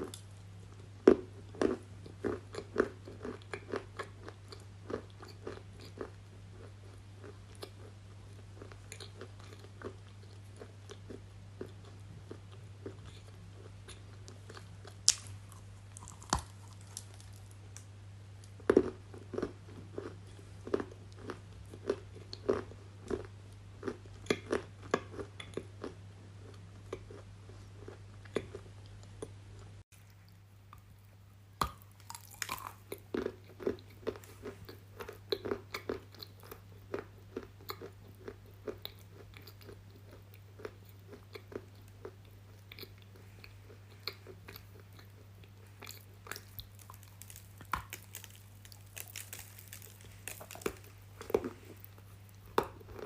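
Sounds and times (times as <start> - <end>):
crunching bites and chewing: 1.0 - 30.8, 31.6 - 53.0.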